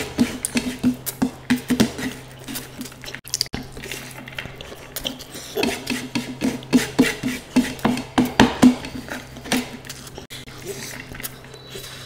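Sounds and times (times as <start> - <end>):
chewing and smacking: 0.0 - 6.7, 8.9 - 12.0.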